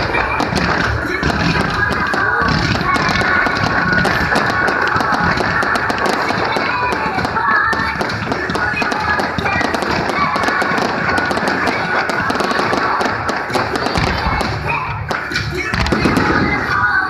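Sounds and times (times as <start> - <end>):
fireworks crackling and popping: 0.0 - 17.0
fireworks shells booming: 0.0 - 17.0
music: 0.0 - 17.0.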